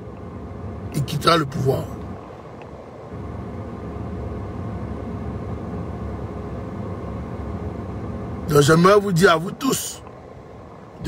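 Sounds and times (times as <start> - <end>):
vehicle rumble inside car: 0.0 - 11.0.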